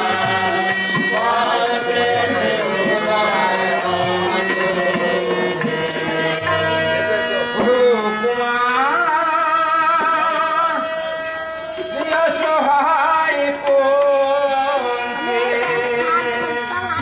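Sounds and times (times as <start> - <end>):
harmonium drone: 0.0 - 17.0
jingling percussion: 0.0 - 17.0.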